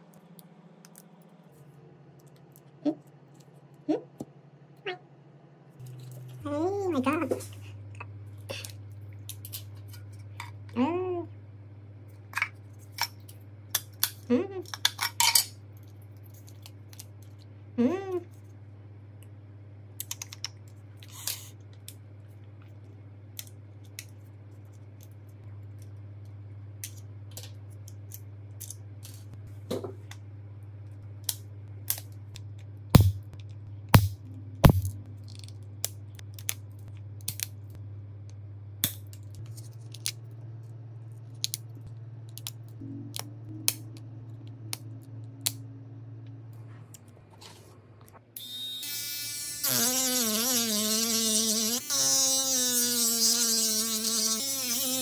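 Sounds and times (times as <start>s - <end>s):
steady low hum: 0.0s - 48.5s.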